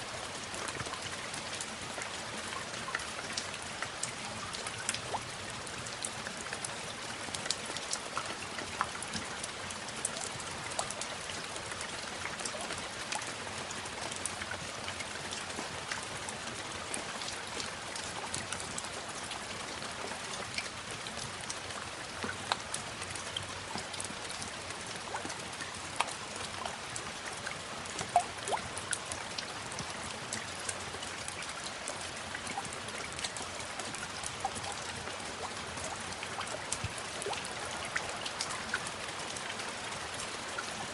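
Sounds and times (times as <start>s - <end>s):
raindrops ticking: 0.0s - 40.9s
steady rain: 0.0s - 40.9s.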